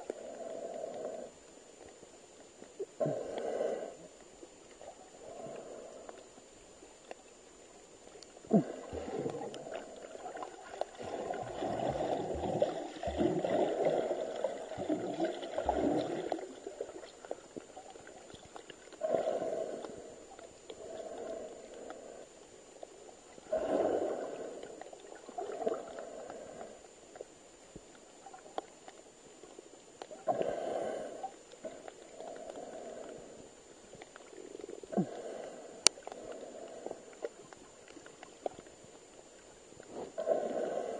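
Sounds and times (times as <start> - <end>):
underwater bubbling: 0.0 - 40.9.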